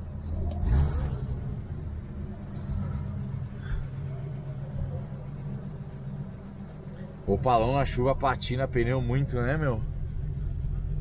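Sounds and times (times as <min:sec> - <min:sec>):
car engine low hum: 0:00.0 - 0:11.0.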